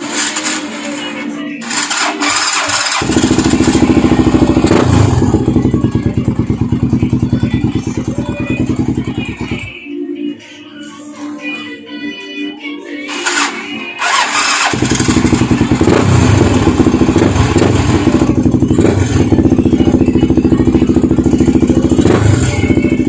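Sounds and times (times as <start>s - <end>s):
motorcycle engine starting and idling: 0.0s - 9.7s, 13.1s - 23.0s.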